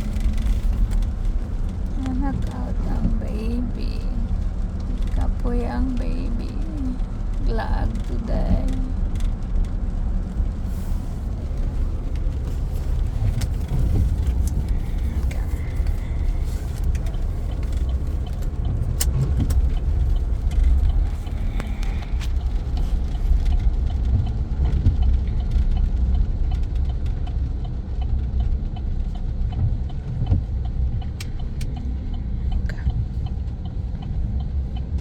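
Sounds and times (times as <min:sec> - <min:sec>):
truck engine and tyres rumbling: 0:00.0 - 0:35.0.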